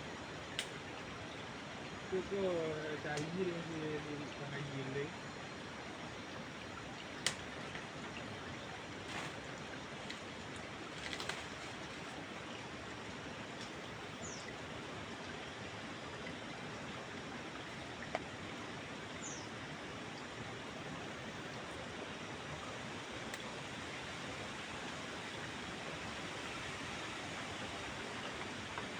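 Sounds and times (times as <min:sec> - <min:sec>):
forest stream rushing: 0:00.0 - 0:28.9.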